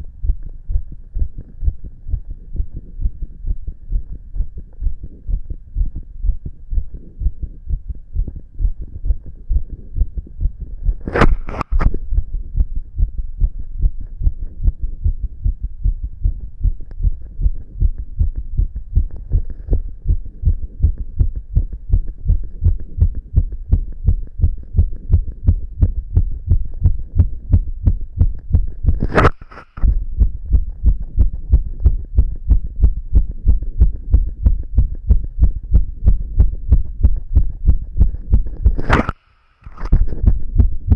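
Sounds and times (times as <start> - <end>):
fast heartbeat thumps: 0.0 - 39.1, 39.8 - 40.9.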